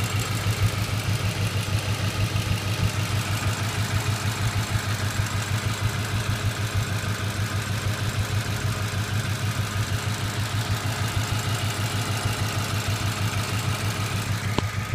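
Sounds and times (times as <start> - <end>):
car engine idling: 0.0 - 14.9
rapid engine ticking: 0.0 - 14.9.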